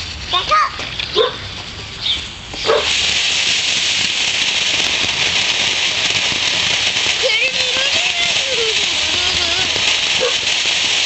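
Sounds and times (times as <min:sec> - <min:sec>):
firework spraying sparks hissing: 0:00.0 - 0:11.0.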